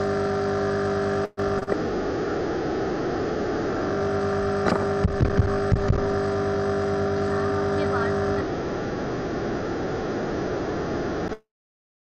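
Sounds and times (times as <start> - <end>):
electronic hum and buzz: 0.0 - 11.5.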